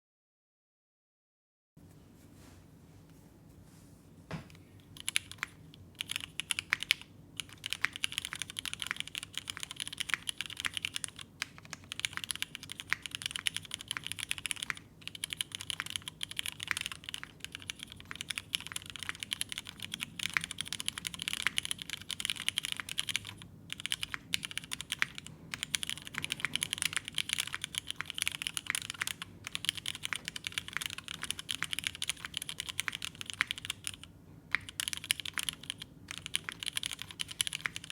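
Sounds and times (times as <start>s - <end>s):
mechanical keyboard typing: 4.9s - 37.9s.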